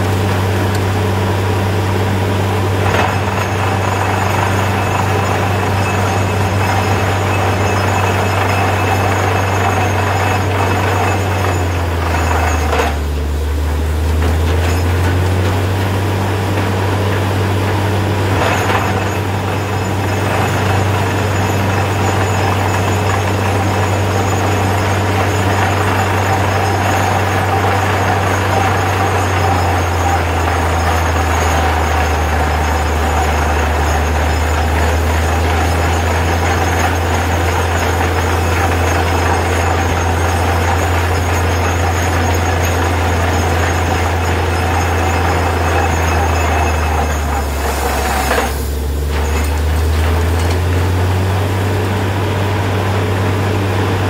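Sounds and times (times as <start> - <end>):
drilling rig engine drone: 0.0 - 54.0
water flushing from bore: 0.0 - 54.0.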